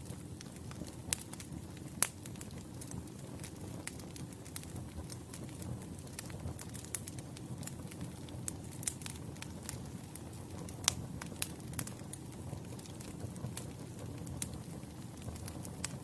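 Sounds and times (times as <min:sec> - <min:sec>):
burning logs crackling and popping: 0:00.0 - 0:16.0
low rush of flames: 0:00.0 - 0:16.0.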